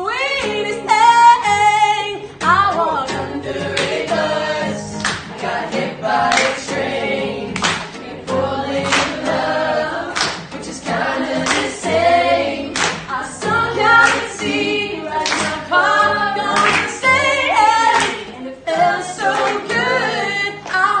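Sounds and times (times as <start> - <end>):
acoustic guitar strumming: 0.0 - 21.0
voices singing along: 0.0 - 21.0
woman singing: 0.0 - 21.0.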